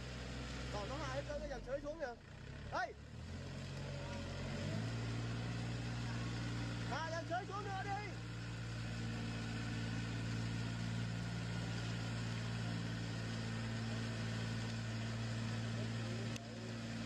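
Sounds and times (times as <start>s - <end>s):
rotary tiller working soil: 0.0s - 1.6s, 3.1s - 17.0s
tractor diesel engine running: 0.0s - 17.0s.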